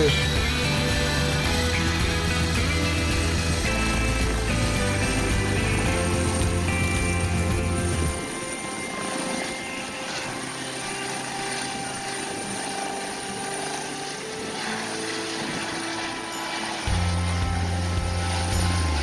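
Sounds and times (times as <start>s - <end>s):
helicopter taking off: 0.0s - 19.0s
high turbine whine: 0.0s - 19.0s.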